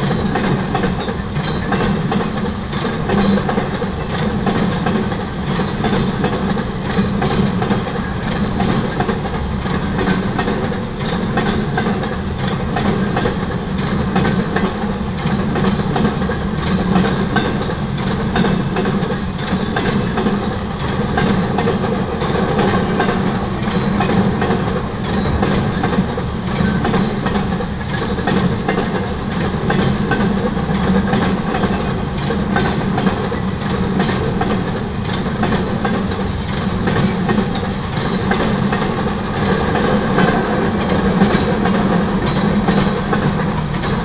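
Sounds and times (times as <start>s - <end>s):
steel wheels rumbling on rail: 0.0s - 44.0s.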